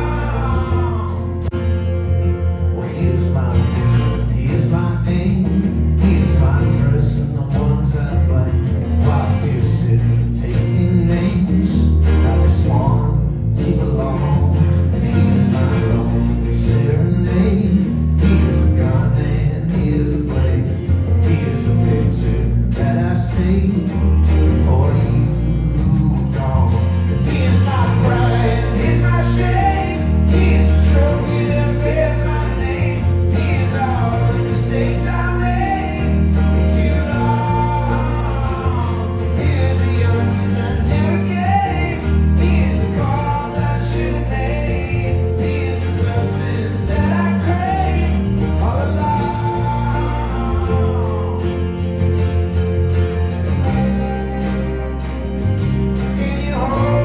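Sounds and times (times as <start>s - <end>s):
person singing: 0.0s - 1.6s, 2.3s - 52.0s, 56.0s - 57.0s
folk-rock band playing: 0.0s - 57.0s
heavy bass: 0.0s - 57.0s.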